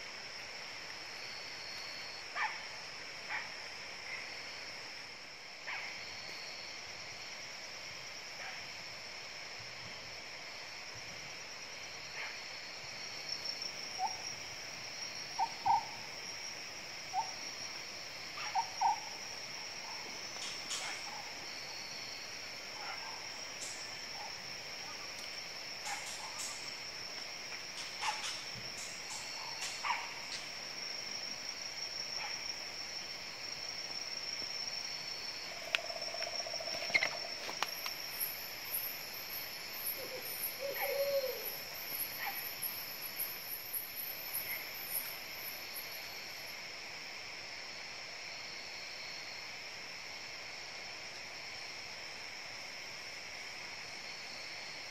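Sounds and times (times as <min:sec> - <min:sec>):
insects droning: 0:00.0 - 0:54.9
pulsing insect trill: 0:00.0 - 0:54.9.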